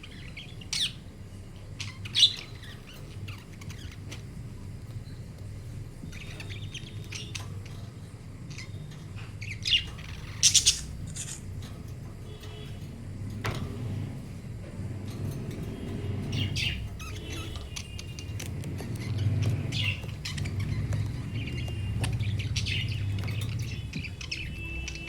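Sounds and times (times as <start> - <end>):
budgerigars chirping: 0.0 - 12.8, 16.1 - 25.0
steady low hum: 0.0 - 25.0.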